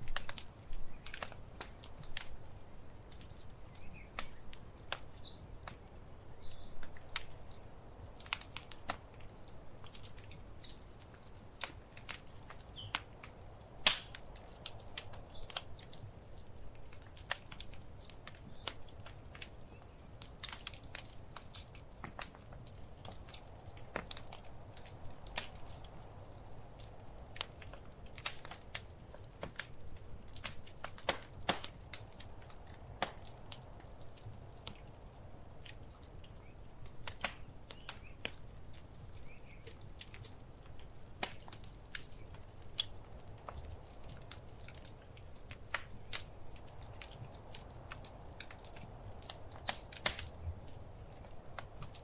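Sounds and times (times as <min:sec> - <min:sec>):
low rumble of burning fire: 0:00.0 - 0:52.0
wood fire pops and snaps: 0:00.0 - 0:52.0.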